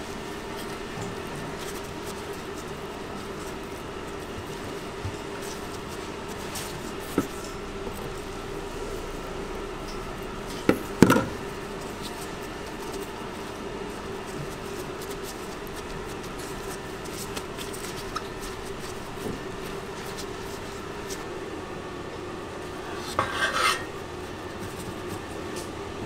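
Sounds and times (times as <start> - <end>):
kitchen machinery humming: 0.0 - 26.0.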